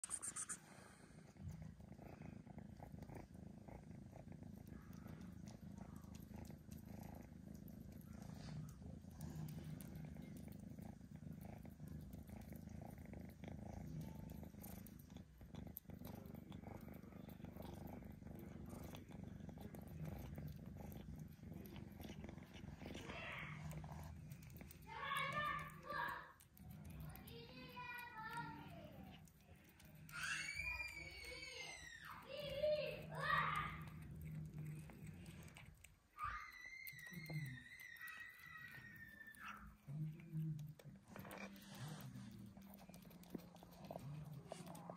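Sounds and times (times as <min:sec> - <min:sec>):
kitten purring: 0:00.0 - 0:44.9
wet chewing clicks: 0:01.3 - 0:44.9.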